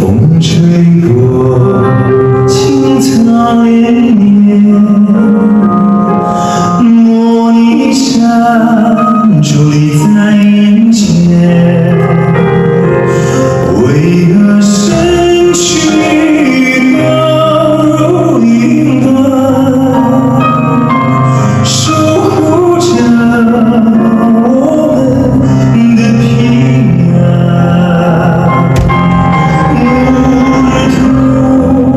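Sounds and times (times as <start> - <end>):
backing music: 0.0 - 31.9
man singing live: 0.0 - 31.9.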